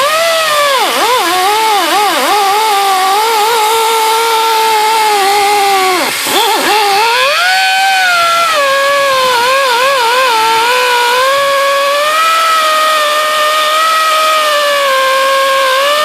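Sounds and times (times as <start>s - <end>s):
electric grinder whining: 0.0s - 16.0s.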